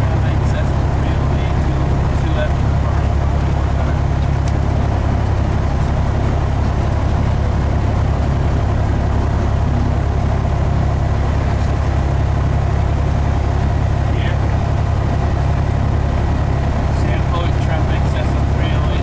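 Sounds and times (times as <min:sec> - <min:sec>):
airplane engine and propeller: 0:00.0 - 0:19.0.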